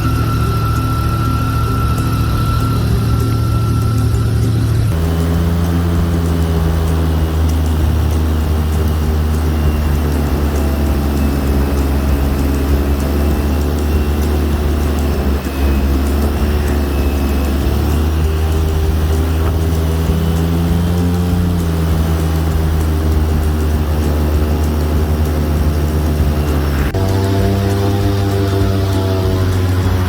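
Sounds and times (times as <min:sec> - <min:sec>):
airboat engine and propeller running: 0:00.0 - 0:30.0.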